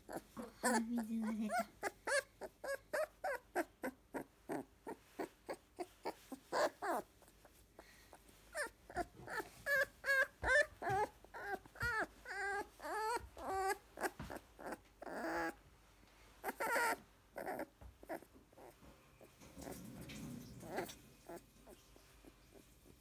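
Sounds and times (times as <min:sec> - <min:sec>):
puppy whimpering: 0:00.0 - 0:15.6, 0:16.4 - 0:23.0.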